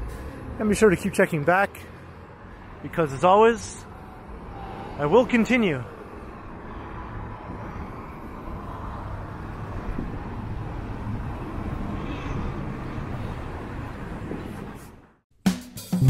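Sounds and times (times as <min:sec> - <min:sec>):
low rumble of traffic: 0:00.0 - 0:15.2.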